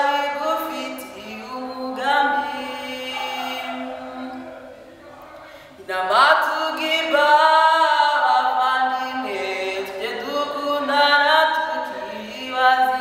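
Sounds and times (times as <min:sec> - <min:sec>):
woman singing unaccompanied: 0:00.0 - 0:04.6, 0:05.9 - 0:13.0.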